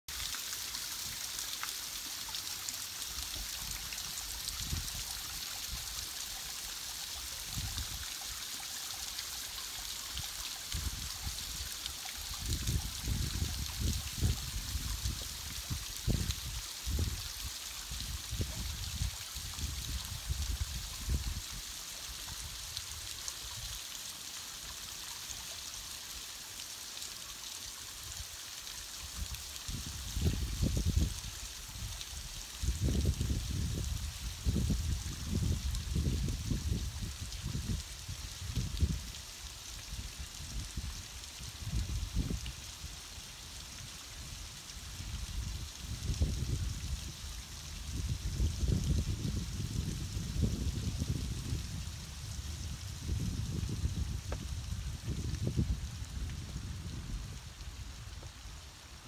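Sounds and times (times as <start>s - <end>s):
water spray falling onto lake: 0.1s - 59.0s.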